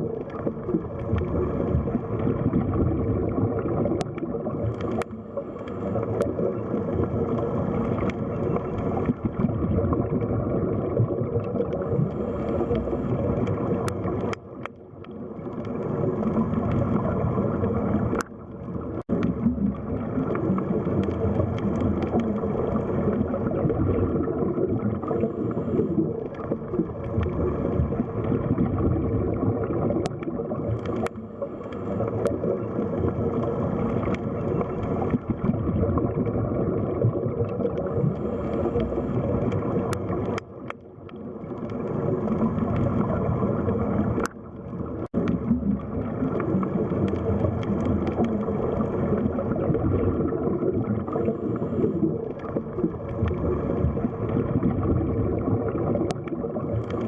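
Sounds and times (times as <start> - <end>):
underwater rushing and gurgling: 0.0 - 57.0.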